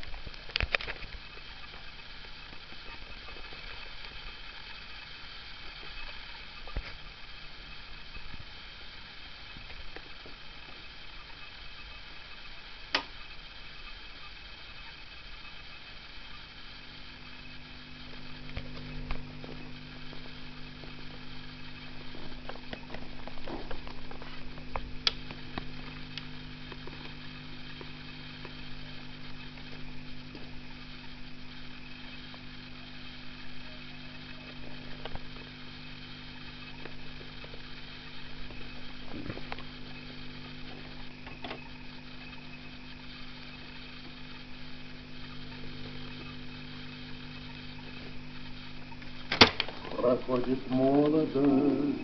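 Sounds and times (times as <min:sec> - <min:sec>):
low mains hum: 0:00.0 - 0:52.0
radio loudspeaker hiss: 0:00.0 - 0:52.0.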